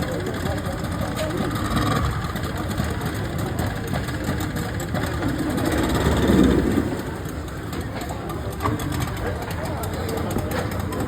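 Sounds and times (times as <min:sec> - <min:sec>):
speedboat engine rumbling: 0:00.0 - 0:11.0.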